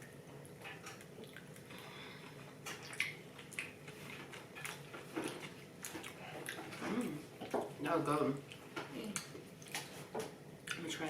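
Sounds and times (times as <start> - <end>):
person chewing food: 0.0 - 7.8, 8.4 - 10.8.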